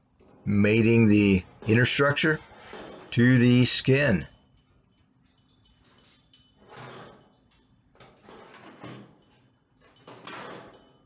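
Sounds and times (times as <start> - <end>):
sheet steel scraping: 0.2 - 4.4, 5.6 - 11.0.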